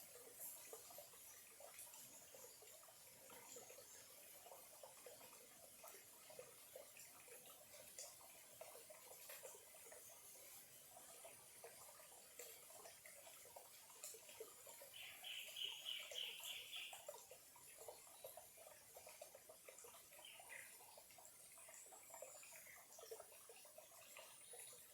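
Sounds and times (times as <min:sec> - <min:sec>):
stream trickling over stones: 0:00.0 - 0:24.9.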